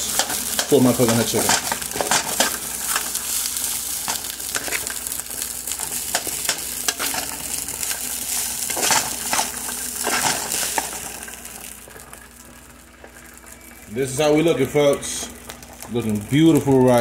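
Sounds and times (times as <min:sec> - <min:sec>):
rice sizzling in a hot pan: 0:00.0 - 0:17.0.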